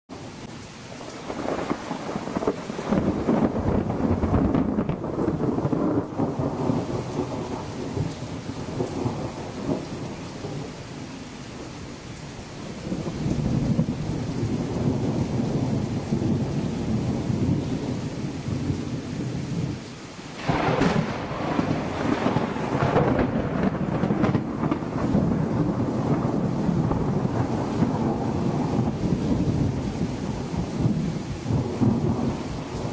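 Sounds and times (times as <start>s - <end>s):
steady rain: 0.1s - 32.9s
thunder rolling: 1.2s - 10.7s, 12.6s - 19.7s, 20.4s - 32.9s
loud thunderclap: 1.3s - 10.7s, 12.8s - 19.3s, 20.4s - 32.9s.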